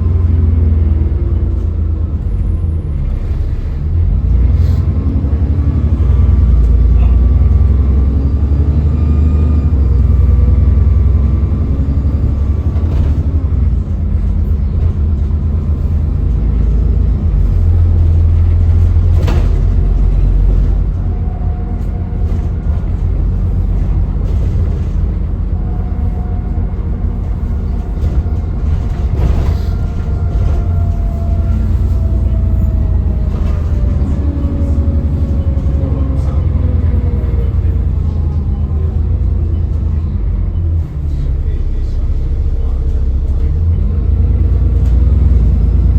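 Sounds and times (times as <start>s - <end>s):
bus engine rumbling: 0.0s - 45.9s.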